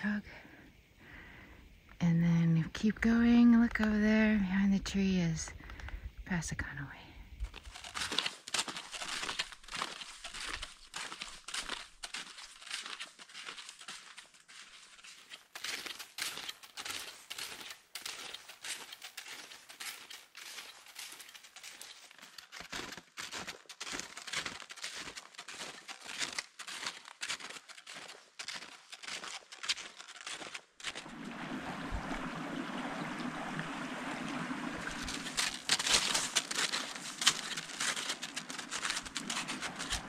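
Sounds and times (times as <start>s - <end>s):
snowshoes crunching on snow: 7.4s - 40.0s.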